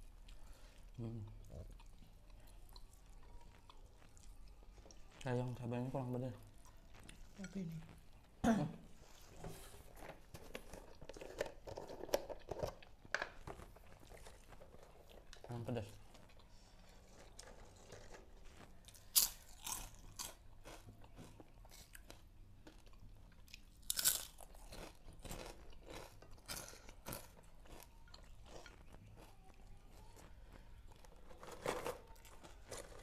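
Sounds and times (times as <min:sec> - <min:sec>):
crunching and chewing fried food: 0:00.0 - 0:08.4, 0:09.0 - 0:33.0.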